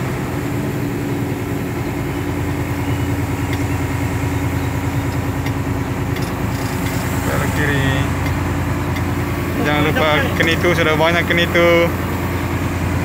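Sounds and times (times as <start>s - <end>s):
fire truck engine running: 0.0s - 13.0s.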